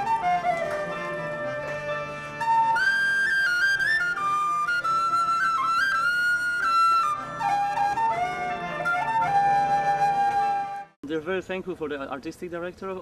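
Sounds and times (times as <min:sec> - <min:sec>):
flute-like melody: 0:00.0 - 0:11.0.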